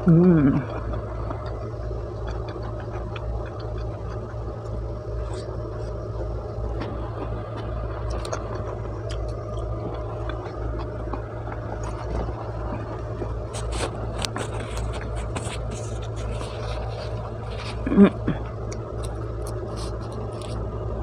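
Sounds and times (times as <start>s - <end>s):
low hum: 0.0s - 21.0s
person chewing food: 0.3s - 20.7s.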